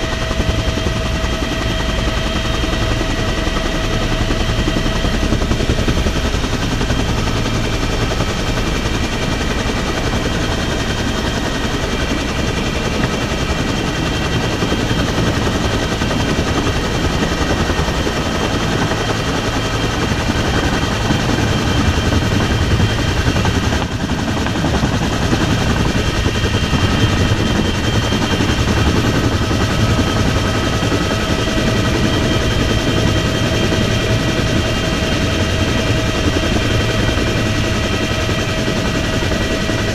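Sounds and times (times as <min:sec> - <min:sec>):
helicopter rotor chop: 0:00.0 - 0:39.9
high engine whine: 0:00.0 - 0:39.9.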